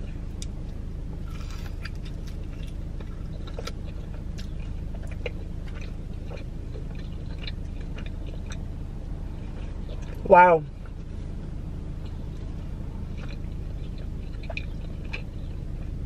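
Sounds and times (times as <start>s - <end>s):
car cabin rumble: 0.0s - 16.0s
close-up chewing: 0.0s - 16.0s.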